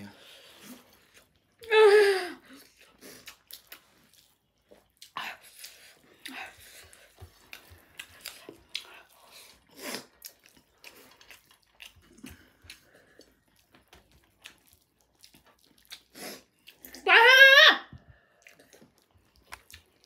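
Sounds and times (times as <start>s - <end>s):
people chewing: 0.0s - 17.1s, 17.9s - 20.0s.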